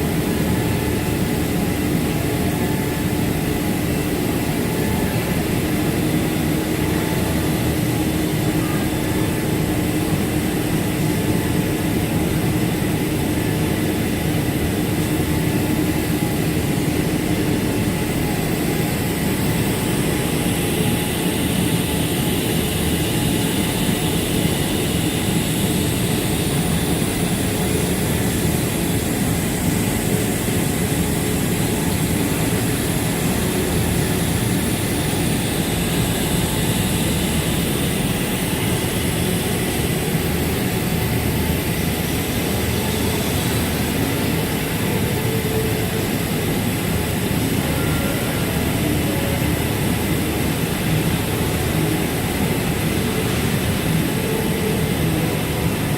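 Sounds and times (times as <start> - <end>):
fabric-cutting machine drone: 0.0 - 55.9.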